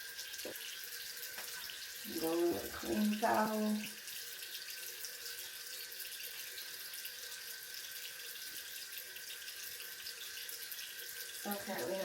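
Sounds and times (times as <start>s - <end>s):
faucet running into sink: 0.0s - 12.0s.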